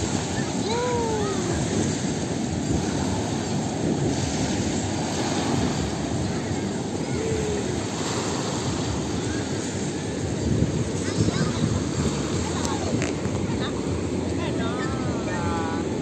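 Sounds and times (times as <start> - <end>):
small waves washing onto beach: 0.0 - 16.0
surf breaking offshore: 0.0 - 16.0.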